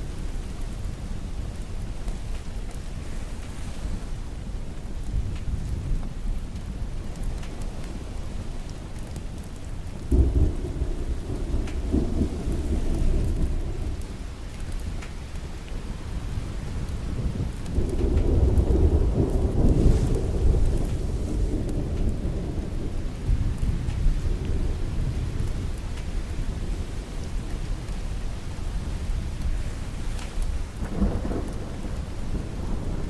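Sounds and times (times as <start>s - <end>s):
steady rain: 0.0s - 33.0s
thunder rumbling: 4.4s - 33.0s.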